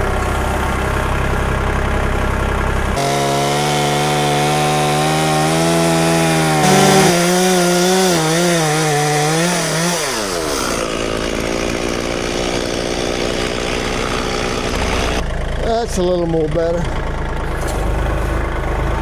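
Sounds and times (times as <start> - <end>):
saw blade cutting log: 0.0 - 15.2
sawmill engine running: 0.0 - 19.0.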